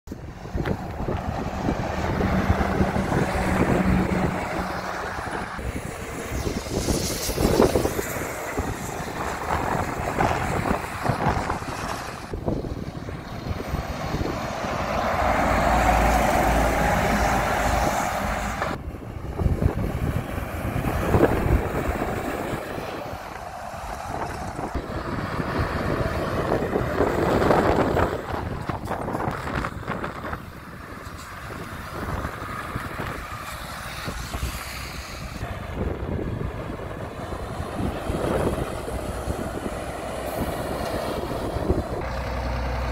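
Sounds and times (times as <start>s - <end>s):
lorries driving past: 0.1s - 42.9s
wind buffeting microphone: 0.1s - 42.9s.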